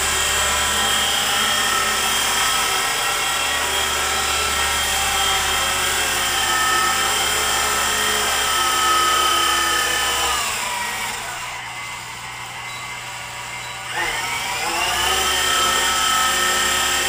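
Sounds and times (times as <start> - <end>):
toy helicopter motor whine: 0.0 - 17.0.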